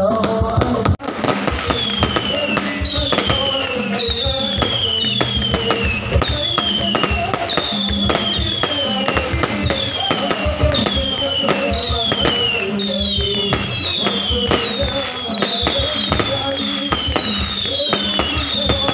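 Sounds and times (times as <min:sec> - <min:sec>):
fireworks bangs and crackle: 0:00.0 - 0:18.9
fireworks falling whistle: 0:00.0 - 0:18.9.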